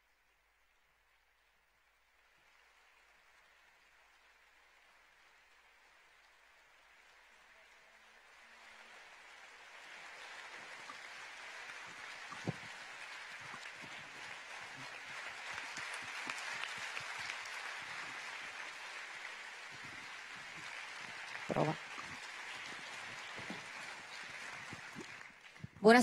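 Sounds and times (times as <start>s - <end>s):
audience applauding: 2.2s - 26.0s.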